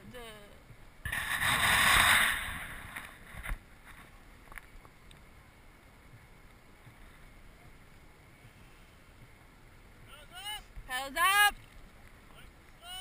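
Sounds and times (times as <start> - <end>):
hiss of wind and water: 0.0 - 13.0.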